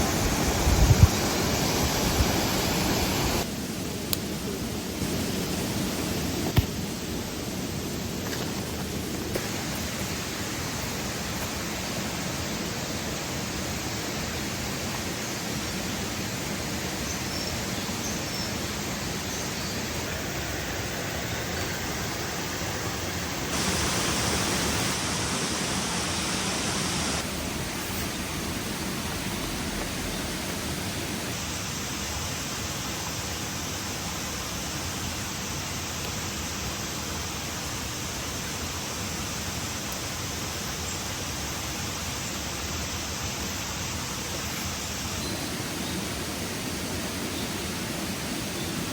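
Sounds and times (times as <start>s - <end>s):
steady rushing outdoor noise: 0.0s - 48.9s.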